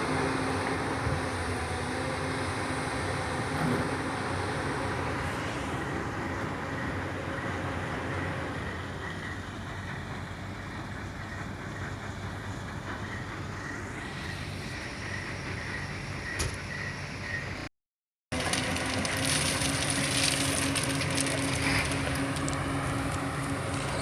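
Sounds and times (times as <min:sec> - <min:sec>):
excavator diesel engine running: 0:00.0 - 0:17.7, 0:18.4 - 0:24.0.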